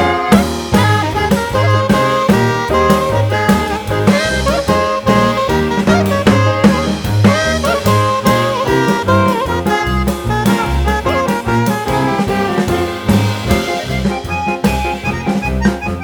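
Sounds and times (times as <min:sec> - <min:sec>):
upbeat jazz music with horns: 0:00.0 - 0:16.0.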